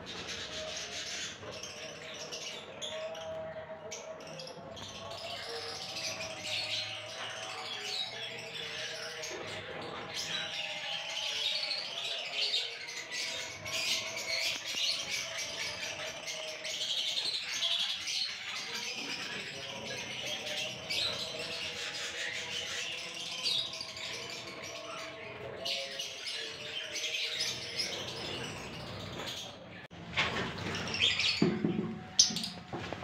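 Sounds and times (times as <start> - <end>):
flock of birds chirping: 0.0 - 33.0.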